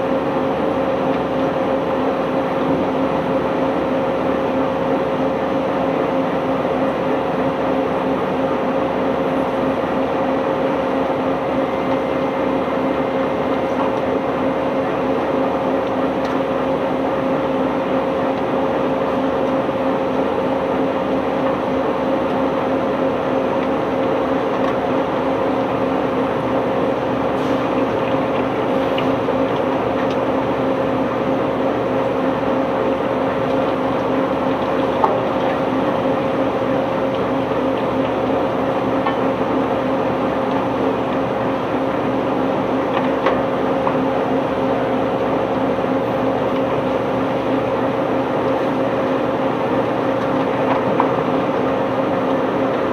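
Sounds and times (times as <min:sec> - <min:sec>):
heavy machinery engine drone: 0:00.0 - 0:52.9
steady hum: 0:00.0 - 0:52.9.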